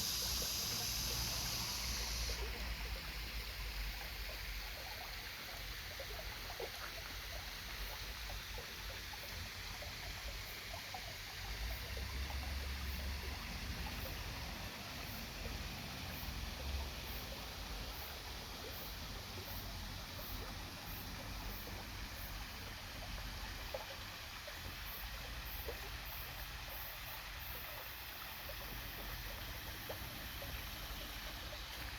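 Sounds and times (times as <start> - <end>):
stream trickling and splashing: 0.0 - 31.9.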